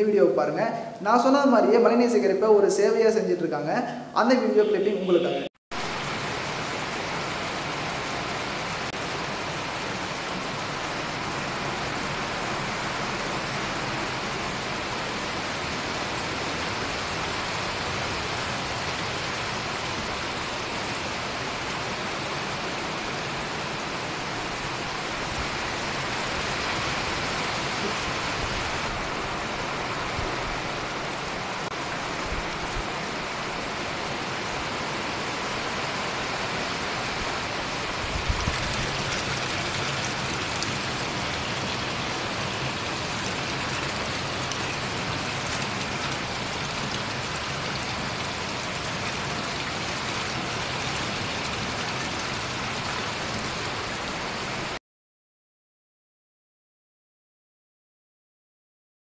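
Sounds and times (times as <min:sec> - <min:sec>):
steady rain falling: 0:05.7 - 0:54.8.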